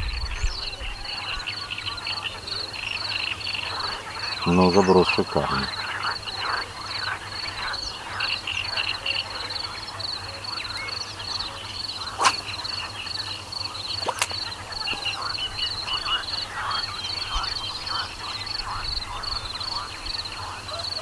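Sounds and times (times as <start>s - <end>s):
birds calling: 0.0s - 21.0s
frogs croaking: 0.0s - 21.0s.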